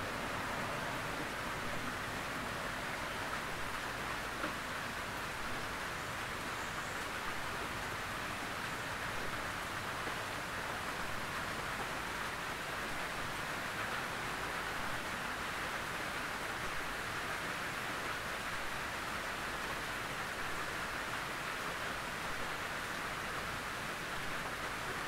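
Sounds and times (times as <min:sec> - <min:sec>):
rain on a tin roof: 0:00.0 - 0:25.0.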